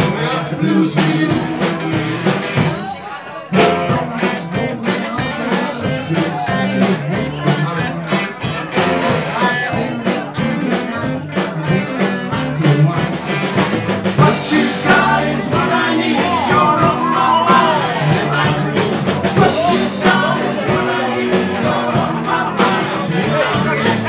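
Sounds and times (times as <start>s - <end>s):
bass: 0.0s - 24.0s
drums keeping a busy beat: 0.0s - 24.0s
electric guitars: 0.0s - 24.0s
keyboard: 0.0s - 24.0s.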